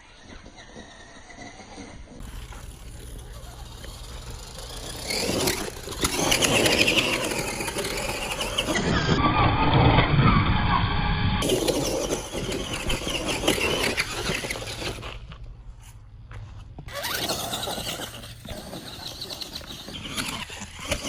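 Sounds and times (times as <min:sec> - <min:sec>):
toy truck motor whine: 0:00.0 - 0:15.2, 0:16.9 - 0:21.0
tyre noise: 0:00.1 - 0:09.4, 0:11.4 - 0:21.0.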